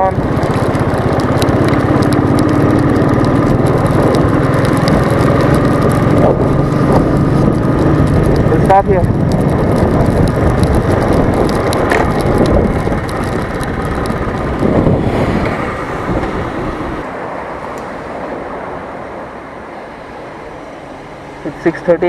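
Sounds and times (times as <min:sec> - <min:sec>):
wind and rain rushing on camera: 0:00.0 - 0:22.0.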